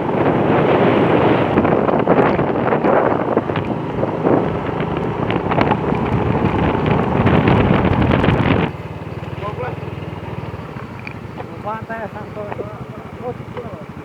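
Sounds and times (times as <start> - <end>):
low engine hum: 0.0 - 14.0
wind buffeting microphone: 0.0 - 14.0.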